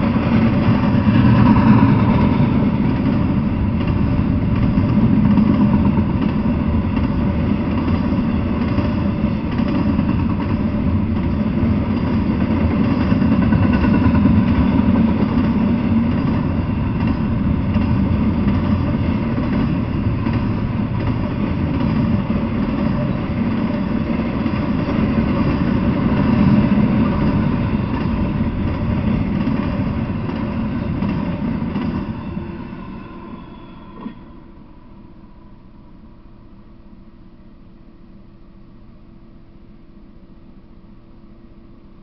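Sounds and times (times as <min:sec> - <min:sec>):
freight train wheels rumbling: 0:00.0 - 0:37.4.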